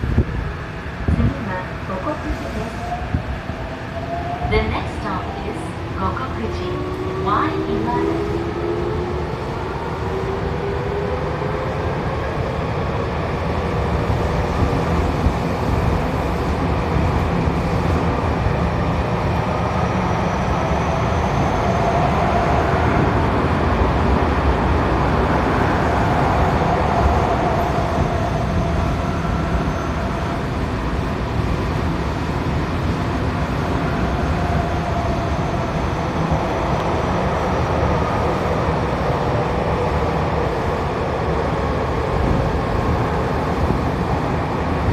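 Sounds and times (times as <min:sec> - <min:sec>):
wheels rumbling on rail: 0:04.6 - 0:44.9.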